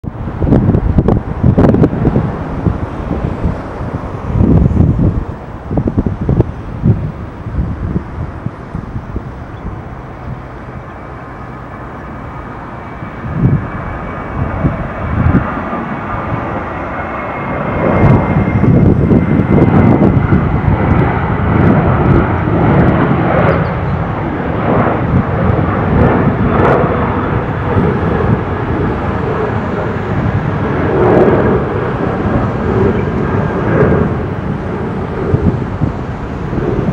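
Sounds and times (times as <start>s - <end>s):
jet engine whine: 0.0s - 36.9s
jet taking off rumble: 0.0s - 36.9s.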